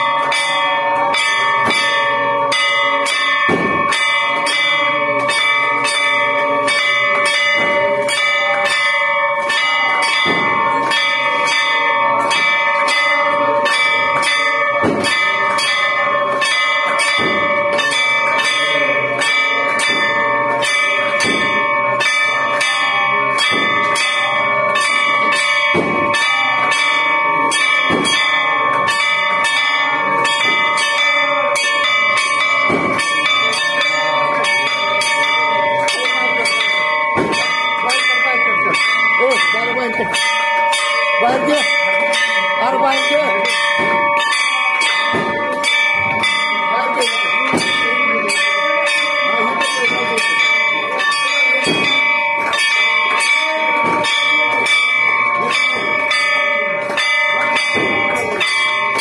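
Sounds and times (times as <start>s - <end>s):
temple bell clanging: 0.0s - 59.0s.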